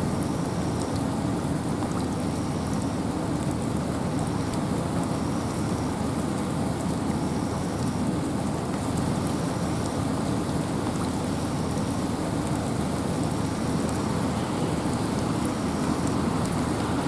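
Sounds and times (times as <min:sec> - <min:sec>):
rain in a forest: 0:00.0 - 0:17.0
water drips: 0:00.0 - 0:17.0
wind: 0:00.0 - 0:17.0.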